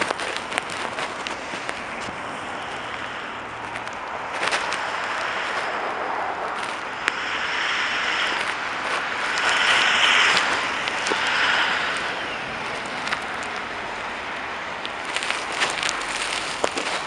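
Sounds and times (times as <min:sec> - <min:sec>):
tyres hissing on snowy road: 0:00.0 - 0:17.0.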